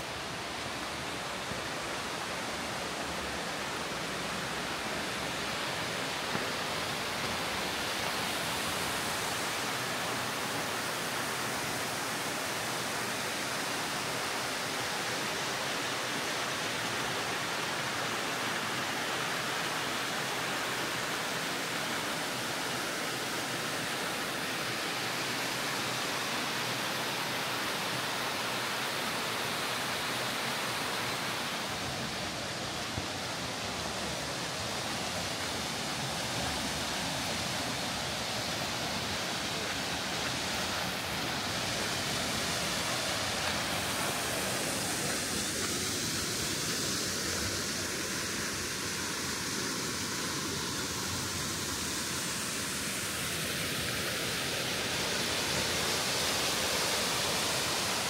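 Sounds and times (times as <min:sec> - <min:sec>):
rushing falling water: 0:00.0 - 0:58.0.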